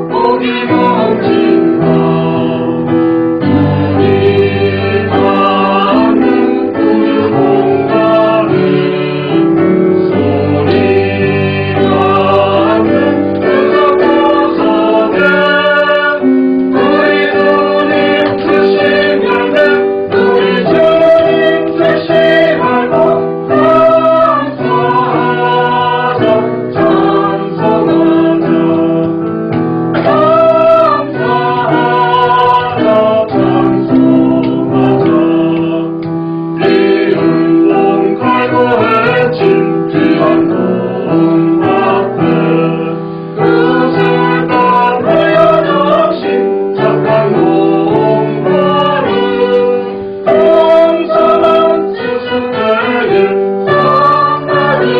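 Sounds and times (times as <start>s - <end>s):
choir singing a hymn: 0.0s - 54.9s
piano accompaniment: 0.0s - 54.9s.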